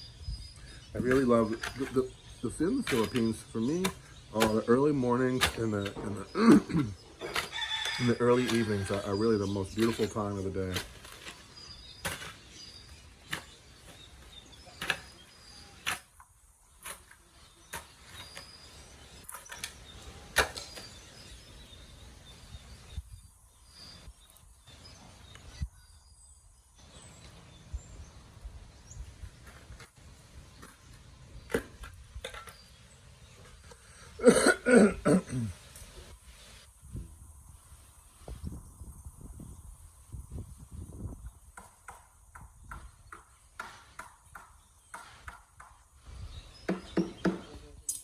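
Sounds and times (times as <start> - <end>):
outdoor background: 0.0 - 48.0.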